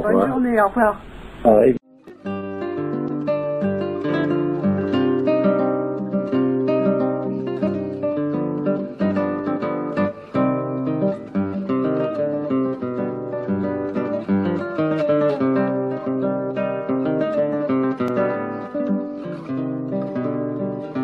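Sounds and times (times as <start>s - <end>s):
acoustic guitar music: 0.0s - 0.6s, 1.8s - 21.0s.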